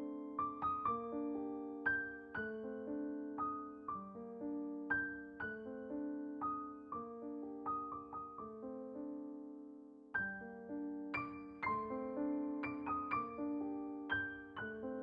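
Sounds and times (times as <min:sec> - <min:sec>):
slow soft piano notes: 0:00.0 - 0:15.0.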